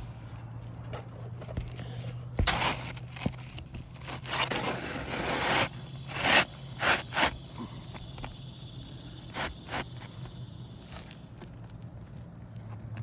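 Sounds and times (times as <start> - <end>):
scraping on shingle roof: 0.0 - 11.1
steady low hum: 0.0 - 13.0.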